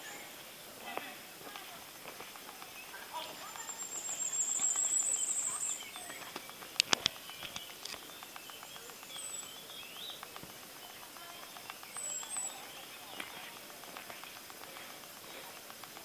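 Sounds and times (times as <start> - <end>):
songbirds singing: 0.0 - 16.0
sharp clicks: 1.0 - 16.0.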